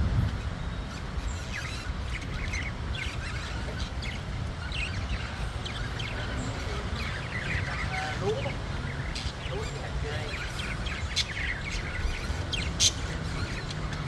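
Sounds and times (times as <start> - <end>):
budgerigars chirping: 0.8 - 14.0.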